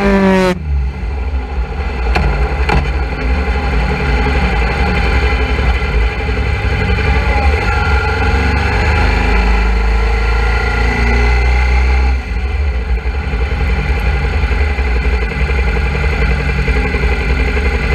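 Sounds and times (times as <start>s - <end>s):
motorcycle engine at low revs: 0.0s - 17.9s.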